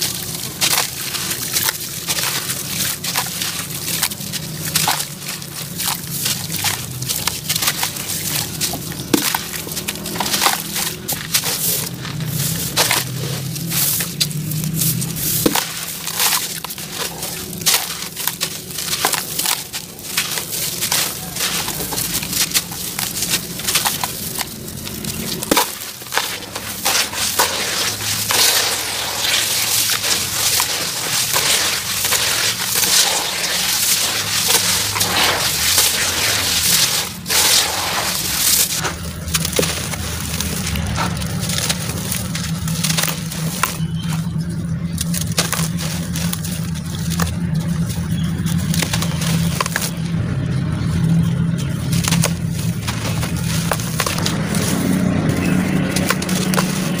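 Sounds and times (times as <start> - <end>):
wet cement crumbling by hand: 0.0 - 57.0.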